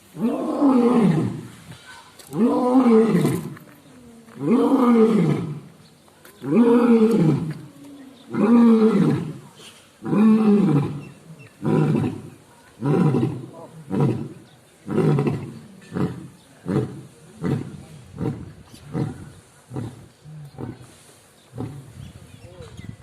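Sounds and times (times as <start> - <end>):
lion roaring: 0.2 - 1.6, 2.3 - 5.7, 6.4 - 20.9.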